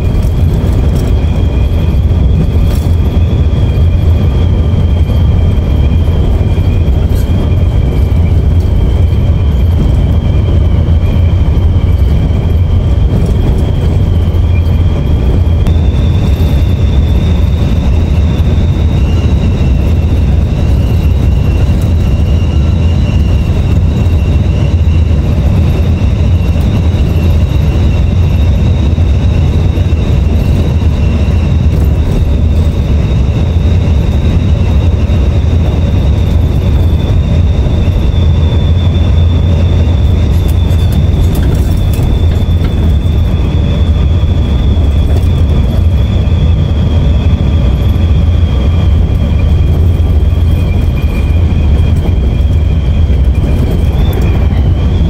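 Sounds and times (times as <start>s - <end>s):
bus engine and road rumble: 0.0s - 55.0s
thin high whines: 0.0s - 55.0s.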